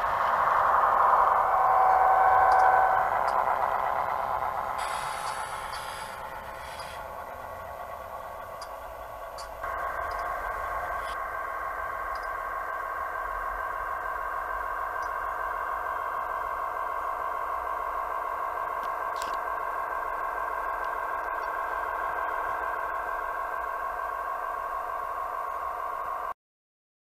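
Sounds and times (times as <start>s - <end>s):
model locomotive diesel engine sound: 0.0s - 26.3s.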